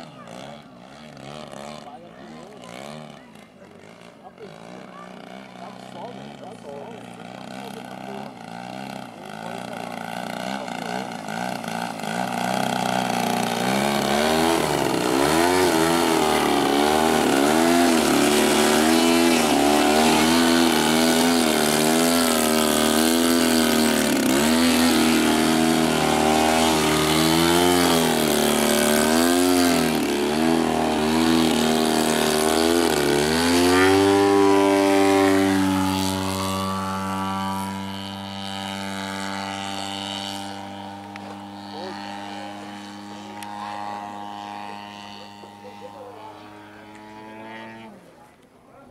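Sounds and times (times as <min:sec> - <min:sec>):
model plane engine and propeller: 0:00.0 - 0:48.9.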